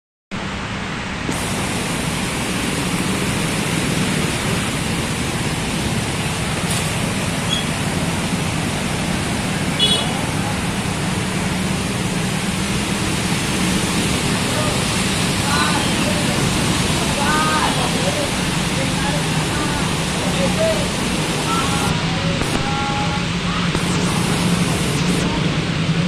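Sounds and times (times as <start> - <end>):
water rushing on a flooded road: 0.4 - 26.0.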